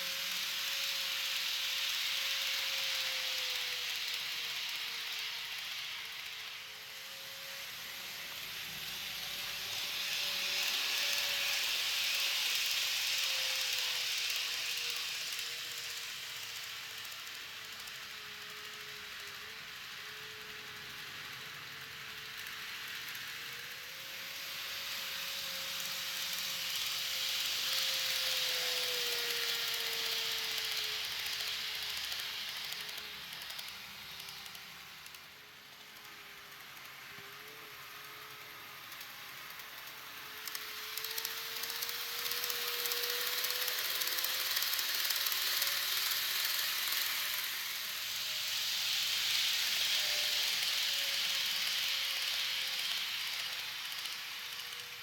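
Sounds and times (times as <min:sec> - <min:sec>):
thin motor whine: 0:00.0 - 0:35.1, 0:36.4 - 0:55.0
model train wheels hissing on rail: 0:00.0 - 0:55.0.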